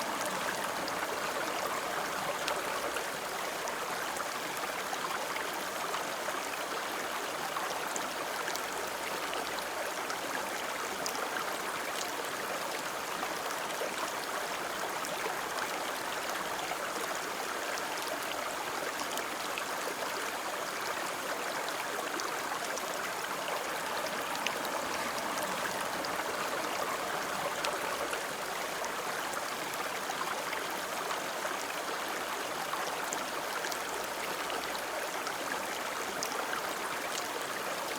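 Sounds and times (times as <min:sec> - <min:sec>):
river water flowing: 0:00.0 - 0:37.9.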